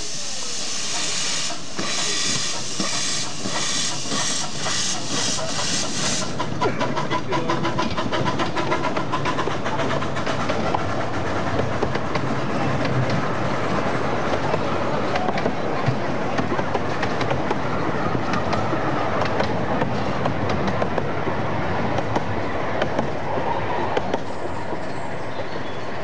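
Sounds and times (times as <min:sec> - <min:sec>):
steam locomotive chuffing: 0:00.0 - 0:26.0
wheels clicking on track: 0:00.3 - 0:26.0.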